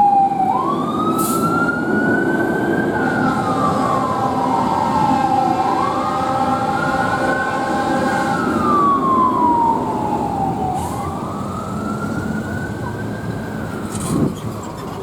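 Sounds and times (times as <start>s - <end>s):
fire engine siren wailing: 0.0s - 15.0s
truck rumbling: 0.0s - 15.0s.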